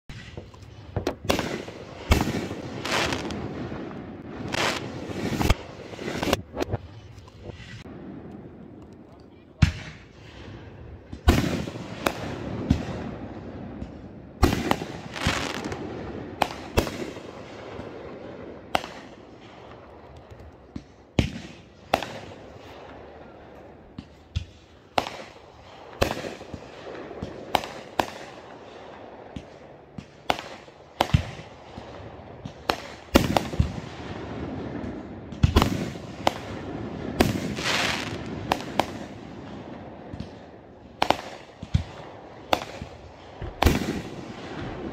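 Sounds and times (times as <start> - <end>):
fireworks bursting with echoing bangs: 0.1 - 44.9.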